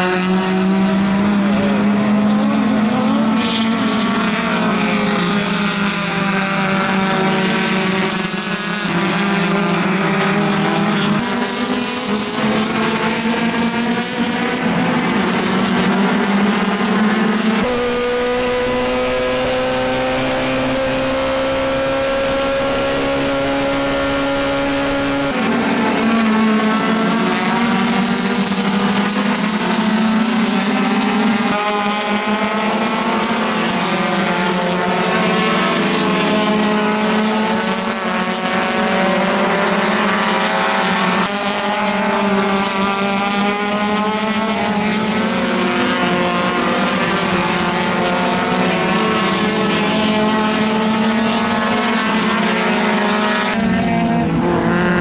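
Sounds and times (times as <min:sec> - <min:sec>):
race car engines accelerating: 0:00.0 - 0:55.0
racing car engine at high revs: 0:00.0 - 0:55.0.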